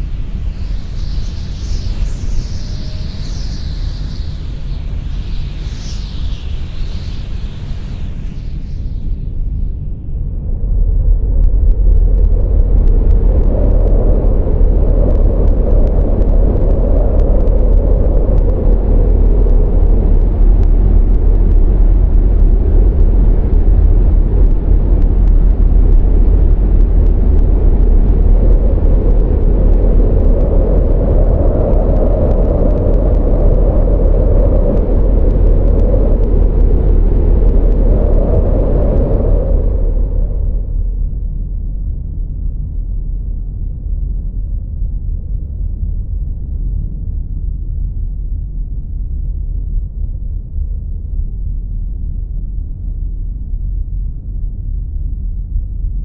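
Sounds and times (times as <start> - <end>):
strong wind on microphone: 0.0 - 56.0.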